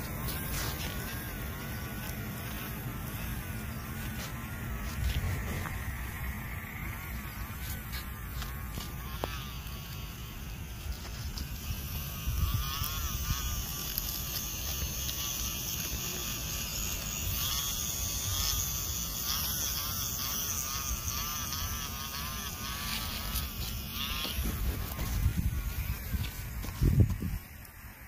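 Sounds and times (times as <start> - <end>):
toy tractor electric motor whining: 0.0 - 28.0.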